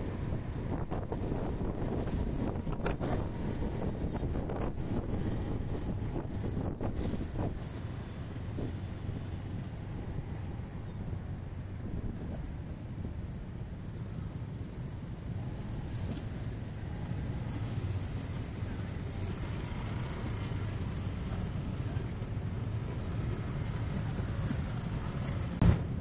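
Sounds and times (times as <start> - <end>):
traffic engines running: 0.0 - 26.0
wind rumbling on microphone: 0.0 - 26.0.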